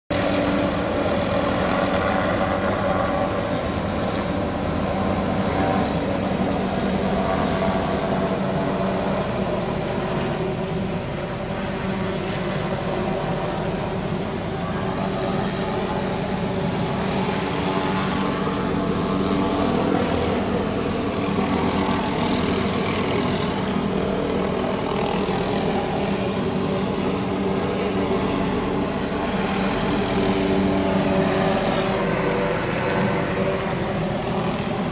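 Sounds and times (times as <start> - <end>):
helicopter rotor and engine drone: 0.1 - 34.9.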